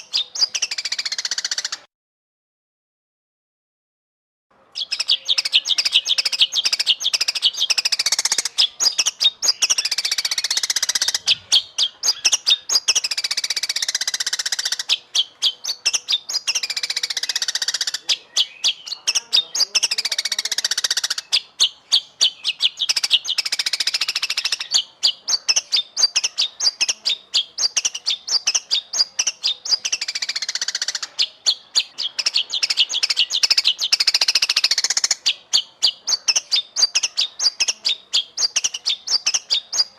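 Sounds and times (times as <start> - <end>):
bird singing rapid chirps: 0.0 - 1.9, 4.6 - 39.9.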